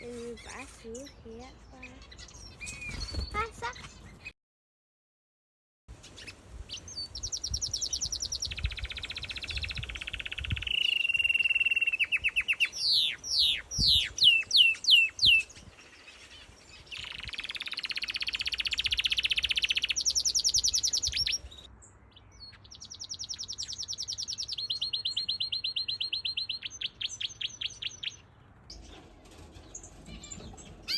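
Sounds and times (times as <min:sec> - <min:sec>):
canary trilling song: 0:00.2 - 0:04.3, 0:06.0 - 0:30.9.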